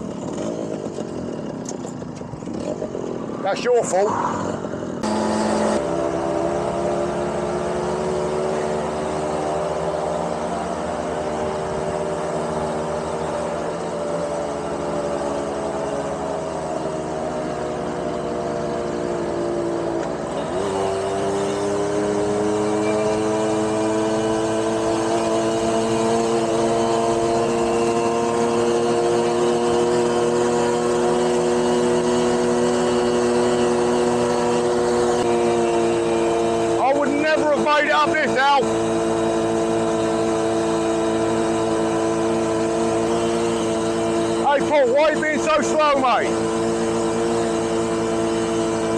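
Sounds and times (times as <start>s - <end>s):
two-stroke moped engine under load: 0.0s - 48.9s.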